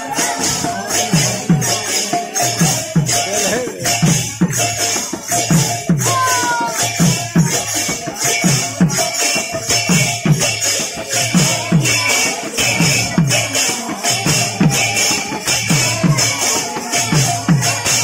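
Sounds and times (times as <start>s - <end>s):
barrel drums beaten: 0.0s - 18.0s
jingling shimmering percussion: 0.0s - 18.0s.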